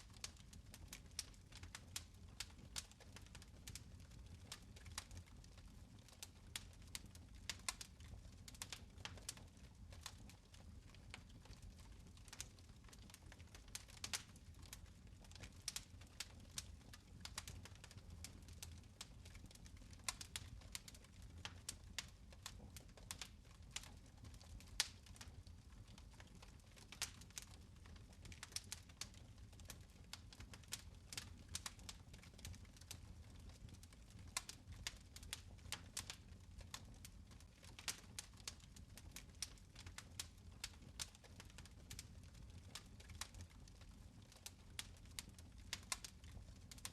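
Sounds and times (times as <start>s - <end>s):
fire crackling softly: 0.0s - 46.9s.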